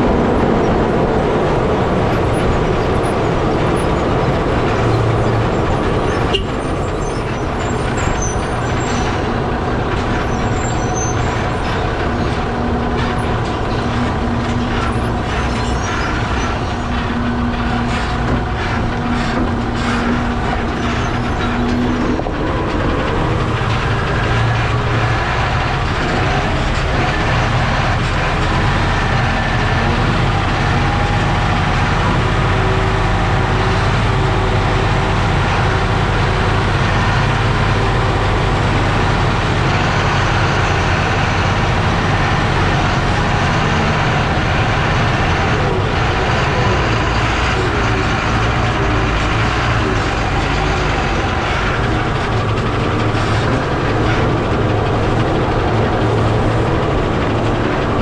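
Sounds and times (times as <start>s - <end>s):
lorry engine and road noise: 0.0s - 58.0s.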